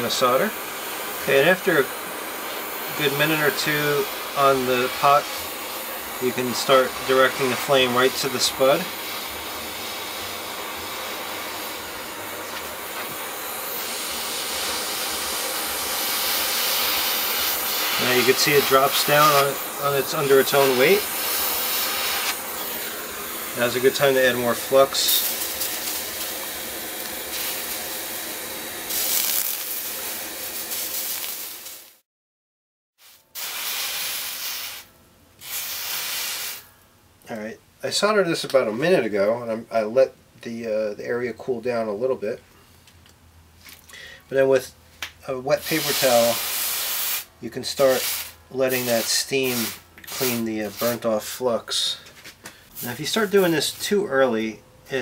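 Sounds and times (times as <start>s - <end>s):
gas torch hissing: 0.0s - 32.0s, 33.0s - 36.7s, 45.3s - 55.0s
wet towel steaming on hot metal: 0.0s - 32.0s, 33.0s - 36.7s, 45.3s - 52.0s, 52.7s - 54.5s.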